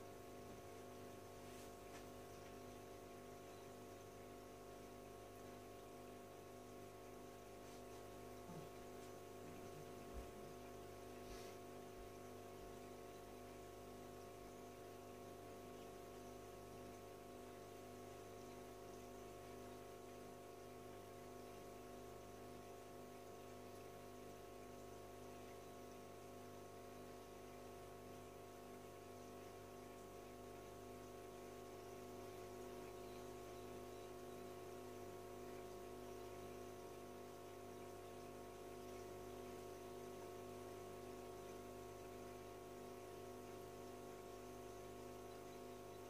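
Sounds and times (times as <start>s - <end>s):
aquarium filter motor hum: 0.0s - 46.0s.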